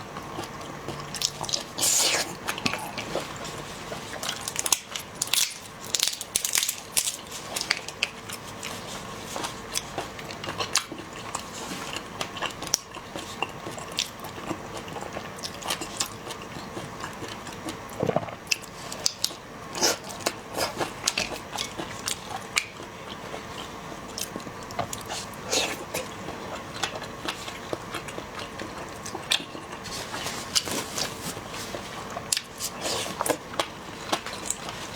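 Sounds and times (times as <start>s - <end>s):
chewing with crunches: 0.1s - 34.9s.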